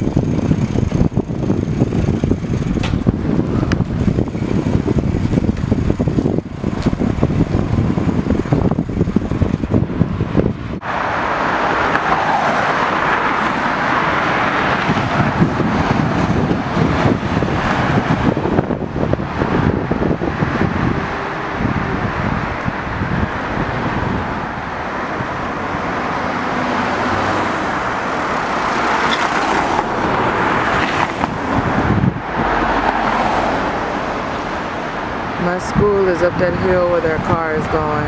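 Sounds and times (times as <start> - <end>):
wind buffeting microphone: 0.0 - 11.0, 11.8 - 38.0
road noise: 0.0 - 38.0.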